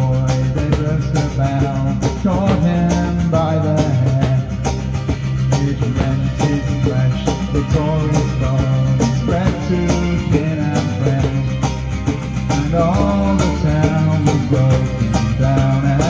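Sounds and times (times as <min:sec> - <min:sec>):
folk band playing: 0:00.0 - 0:16.0
plucked strings: 0:00.0 - 0:16.0.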